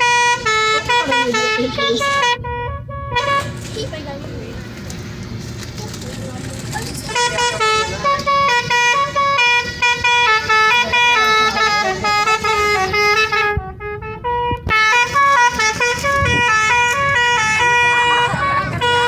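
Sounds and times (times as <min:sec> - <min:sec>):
bus musical horn playing a tune: 0:00.0 - 0:03.7, 0:07.0 - 0:19.0.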